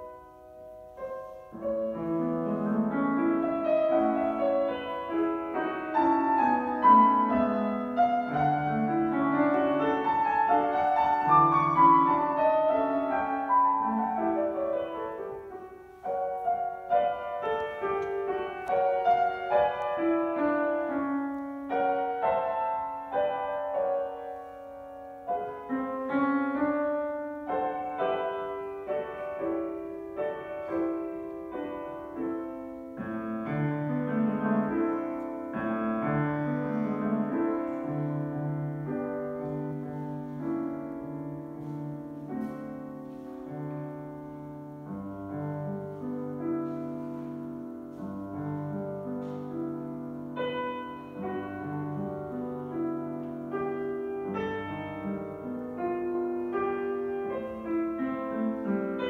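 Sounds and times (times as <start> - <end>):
solo grand piano piece: 0.0 - 59.0.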